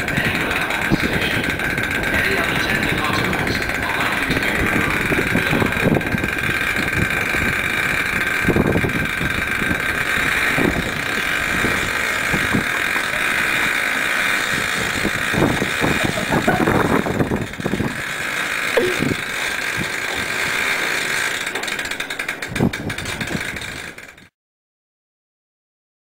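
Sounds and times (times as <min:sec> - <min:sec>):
steady high whine: 0:00.0 - 0:24.2
locomotive engine puttering and knocking: 0:00.0 - 0:24.3.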